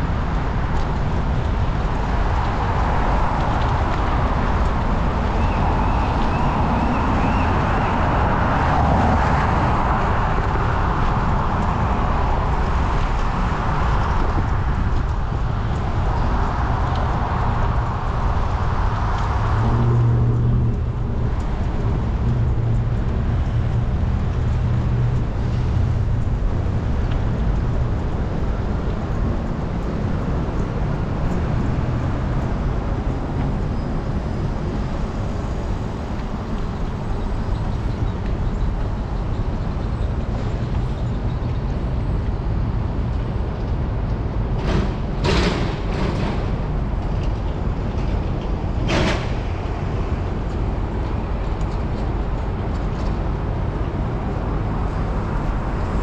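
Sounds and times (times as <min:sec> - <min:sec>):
motor traffic: 0:00.0 - 0:56.0
road and wind noise: 0:00.0 - 0:56.0.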